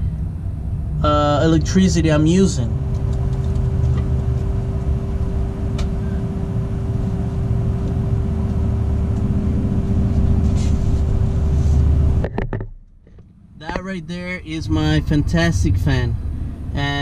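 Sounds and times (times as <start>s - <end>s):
roof vent fan running: 0.0s - 17.0s.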